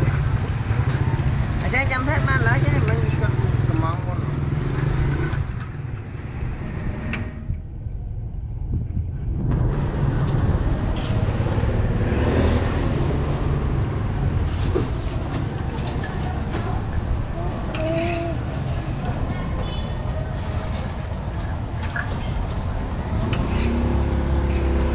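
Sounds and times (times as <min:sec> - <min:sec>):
motor vehicles running: 0:00.0 - 0:24.9
road noise: 0:00.0 - 0:24.9.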